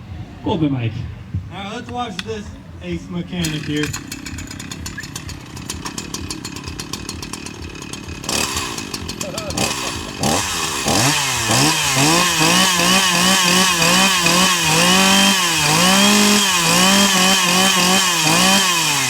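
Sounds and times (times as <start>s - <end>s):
chainsaw engine revving: 3.3s - 19.0s.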